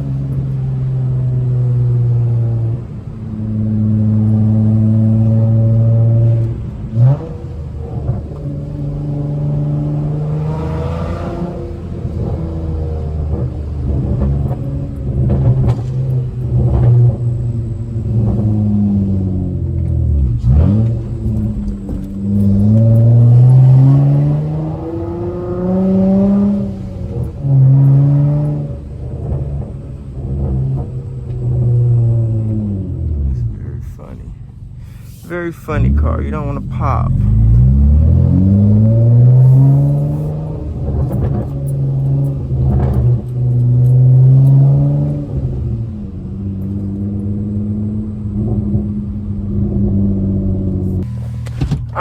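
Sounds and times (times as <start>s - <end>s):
car exhaust revving: 0.0s - 52.0s.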